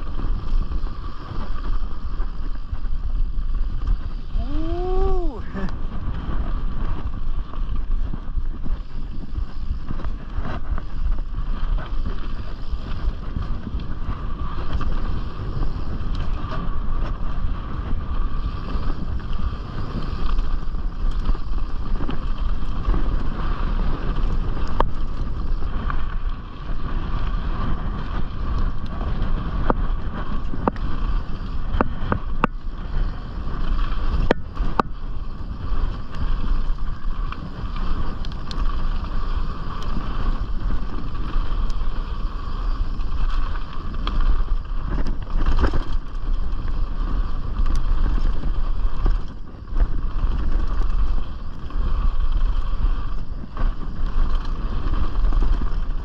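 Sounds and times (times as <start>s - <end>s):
tyre rumble: 0.0s - 56.0s
wind rushing over microphone: 0.0s - 56.0s.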